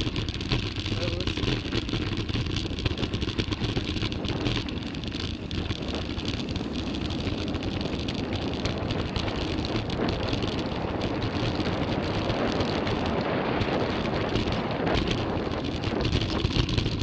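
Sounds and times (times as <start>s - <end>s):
bike rattling and knocking: 0.0s - 17.0s
bike tyre noise: 0.0s - 17.0s
wind rush on microphone: 0.0s - 17.0s.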